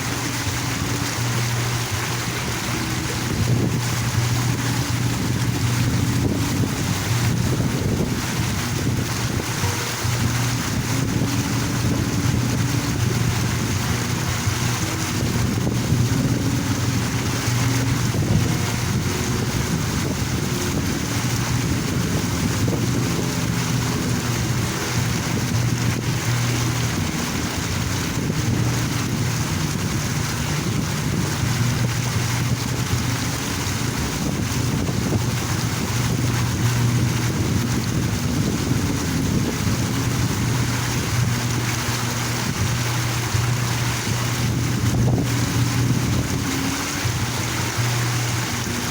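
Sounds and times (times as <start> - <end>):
water fountain splashing: 0.0 - 48.9.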